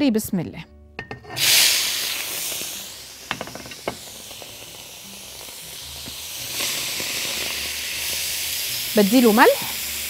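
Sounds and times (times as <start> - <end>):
shrimp sizzling in hot oil: 1.3 - 10.0.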